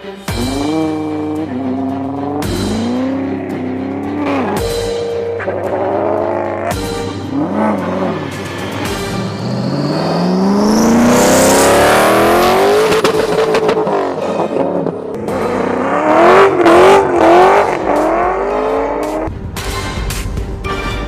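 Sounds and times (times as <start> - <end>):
car engine at full throttle: 0.3 - 19.3.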